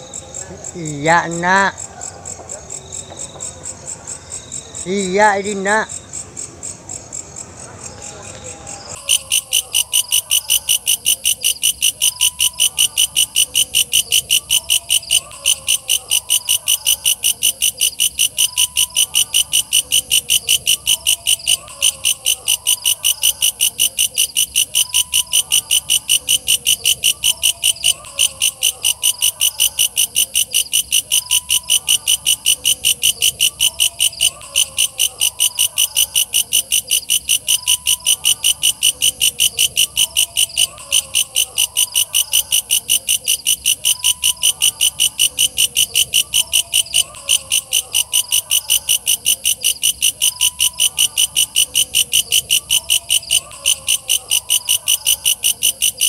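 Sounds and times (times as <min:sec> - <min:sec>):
faint low wavering insect calls: 0:08.4 - 0:56.0
katydid chirping: 0:08.9 - 0:56.0.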